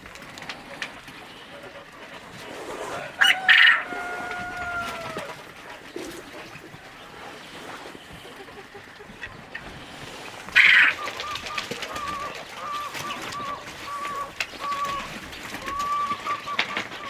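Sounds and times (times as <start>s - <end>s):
poultry calling: 0.7s - 17.0s.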